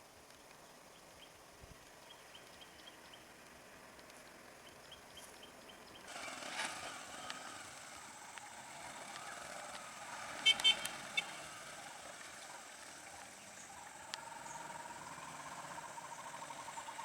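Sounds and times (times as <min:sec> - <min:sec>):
vehicle running noise: 0:02.2 - 0:17.0.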